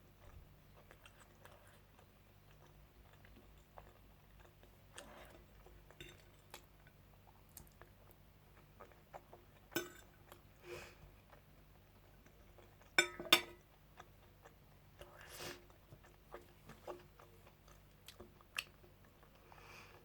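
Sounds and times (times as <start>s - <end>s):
person chewing: 0.2s - 10.5s, 11.2s - 13.0s, 13.6s - 20.0s.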